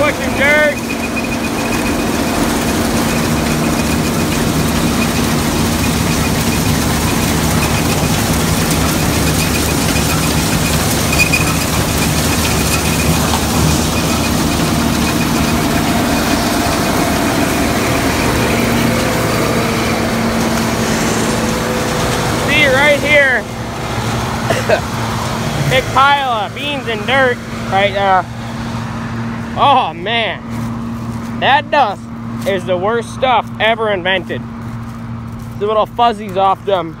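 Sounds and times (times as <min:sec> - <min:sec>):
combine harvester drone: 0:00.0 - 0:37.0.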